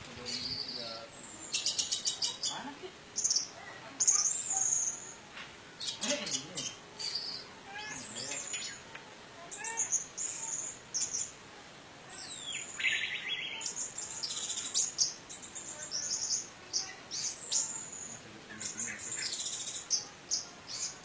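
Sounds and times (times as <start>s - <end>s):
bird singing chirps and trills: 0.2s - 11.4s, 12.1s - 21.0s.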